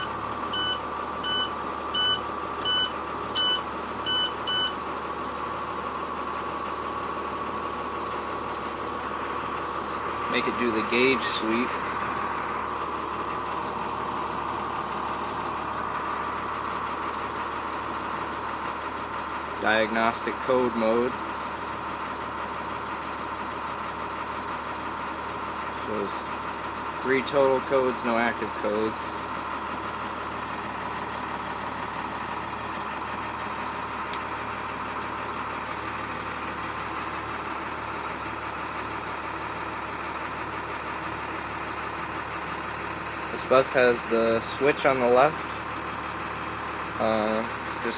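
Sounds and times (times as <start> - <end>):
diesel bus engine idling: 0.0 - 47.9.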